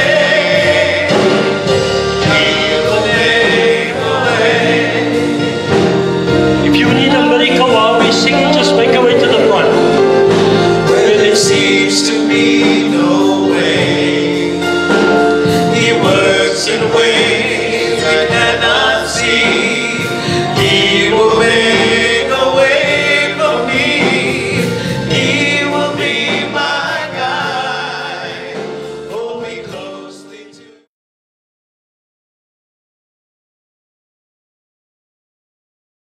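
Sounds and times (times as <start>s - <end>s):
choir singing: 0.0s - 30.9s
gospel music: 0.0s - 30.9s.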